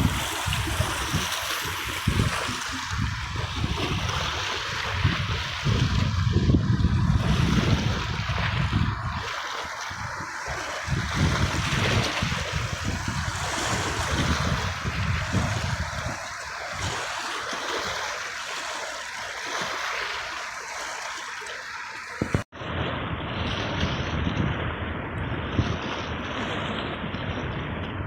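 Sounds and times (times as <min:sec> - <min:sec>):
wind buffeting microphone: 0:00.0 - 0:18.8, 0:22.0 - 0:28.0
sea waves washing: 0:00.0 - 0:28.0.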